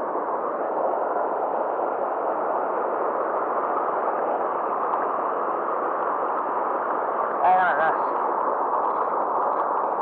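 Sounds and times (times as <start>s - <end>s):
turbulent water churning: 0.0s - 10.0s.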